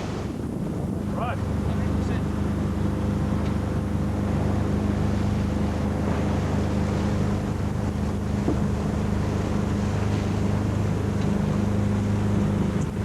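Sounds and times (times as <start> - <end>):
engine humming: 0.0 - 13.0
wind and water wash: 0.0 - 13.0.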